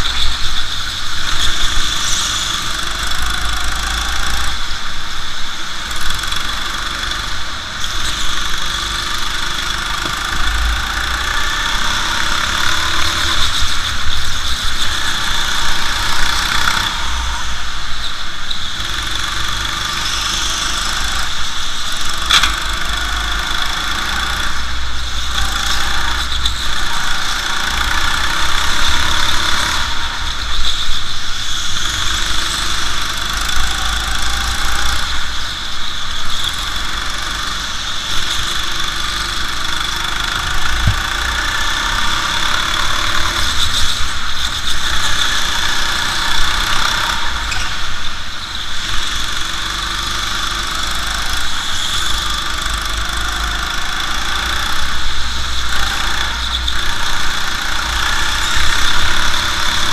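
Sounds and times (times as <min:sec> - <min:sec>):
go-kart engine revving: 0:00.0 - 0:59.9
steady high whine: 0:00.0 - 0:59.9.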